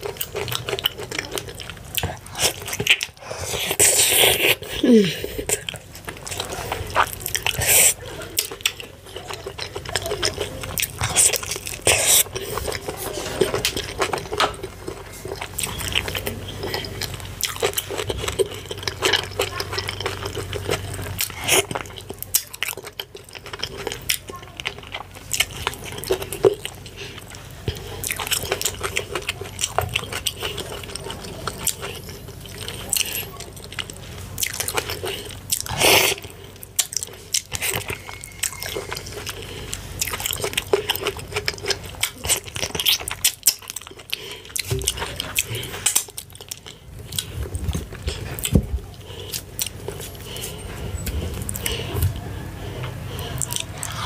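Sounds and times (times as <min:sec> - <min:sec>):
swallowing: 0:00.0 - 0:54.0
wet chewing and smacking: 0:00.0 - 0:54.0.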